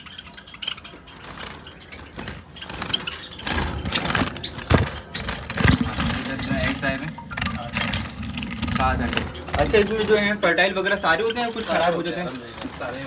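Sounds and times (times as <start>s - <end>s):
clattering and rattling: 1.4s - 13.0s.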